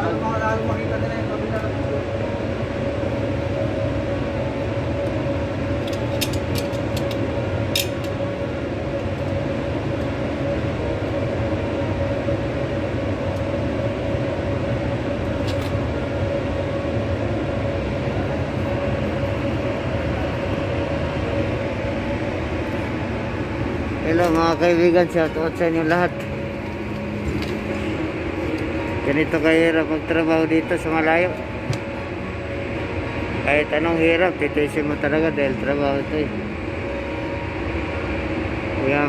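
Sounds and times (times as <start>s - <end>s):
mechanical drone hum: 0.0s - 39.0s.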